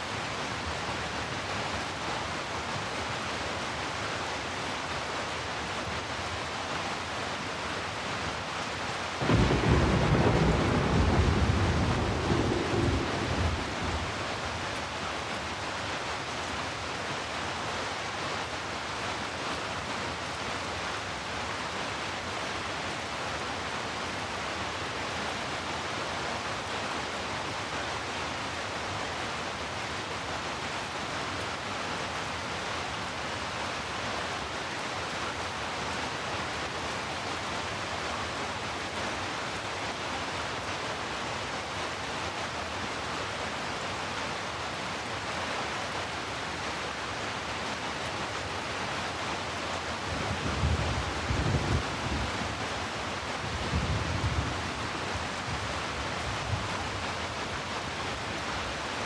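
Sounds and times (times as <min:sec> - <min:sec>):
heavy rainfall hiss: 0:00.0 - 0:59.0.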